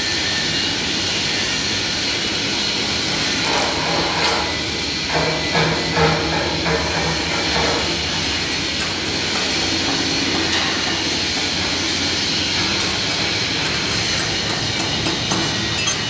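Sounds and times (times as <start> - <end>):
loud workshop din: 0.0 - 16.0.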